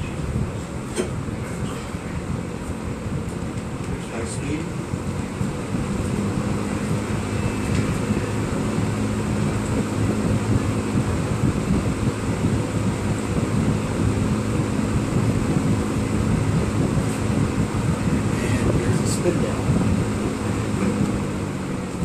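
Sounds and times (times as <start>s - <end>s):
box fan air rush: 0.0s - 22.0s
low motor hum: 0.0s - 22.0s.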